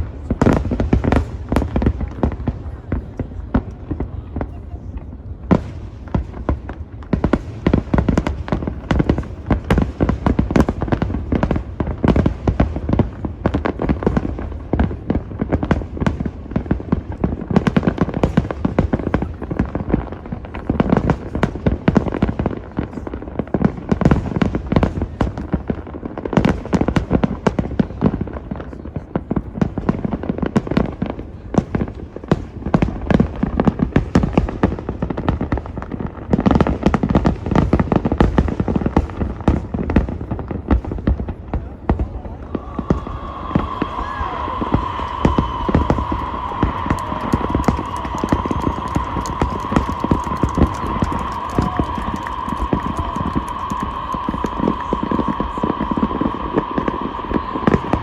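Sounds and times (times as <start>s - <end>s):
fireworks bursting: 0.0s - 58.0s
fireworks crackling: 0.0s - 58.0s.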